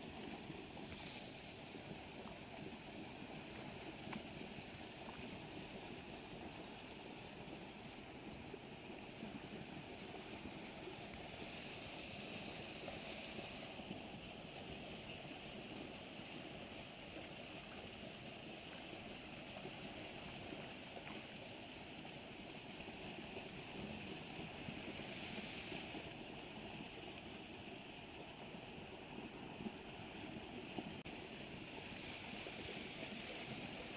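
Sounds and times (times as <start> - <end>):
turbulent water rushing in canal: 0.0 - 33.9.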